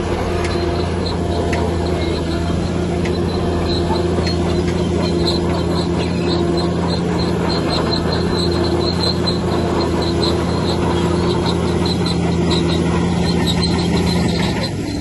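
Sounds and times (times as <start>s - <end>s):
bulldozer diesel engine running: 0.0s - 15.0s
crawler tracks squeaking: 0.0s - 15.0s.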